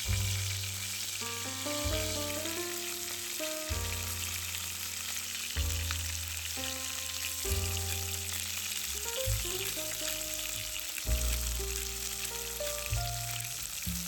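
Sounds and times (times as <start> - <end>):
background music with bass line: 0.0 - 14.0
food sizzling in a skillet: 0.0 - 14.0.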